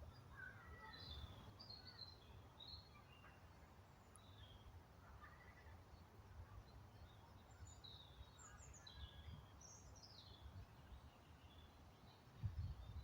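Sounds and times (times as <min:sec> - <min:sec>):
faint birdsong chirping: 0:00.0 - 0:13.0.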